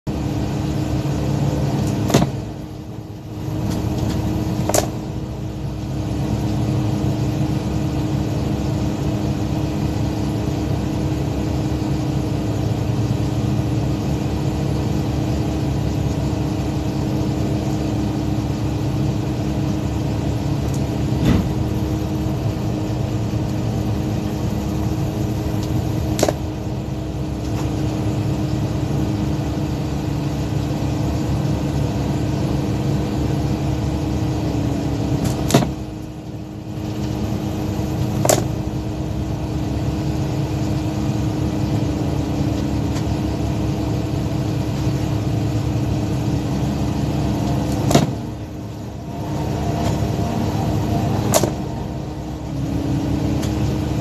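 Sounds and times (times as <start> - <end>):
boat engine running: 0.1 - 54.0.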